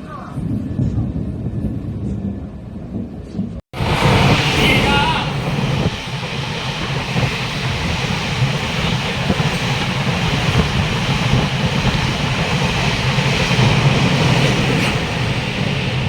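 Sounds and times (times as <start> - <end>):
train wheels rumbling on rail: 3.0 - 16.0.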